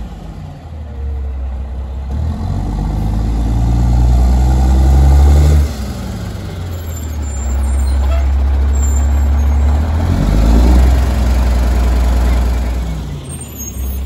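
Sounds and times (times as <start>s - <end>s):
garbage truck diesel engine: 0.0s - 14.0s.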